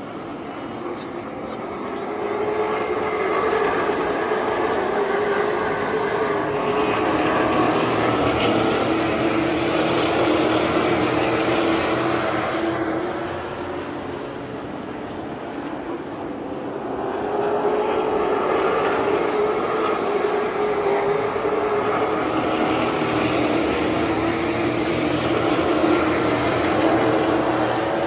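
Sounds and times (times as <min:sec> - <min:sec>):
racing cars passing: 0:00.0 - 0:28.0.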